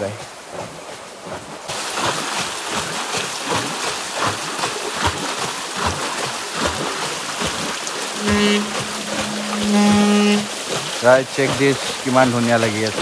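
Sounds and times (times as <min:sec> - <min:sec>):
flowing water splashing: 0:00.0 - 0:13.0.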